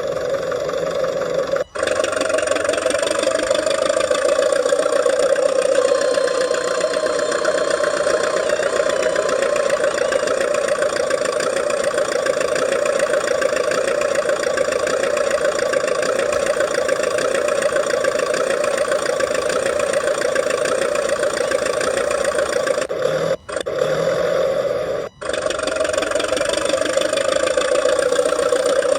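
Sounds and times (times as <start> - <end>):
toy bulldozer motor drone: 0.0 - 28.9.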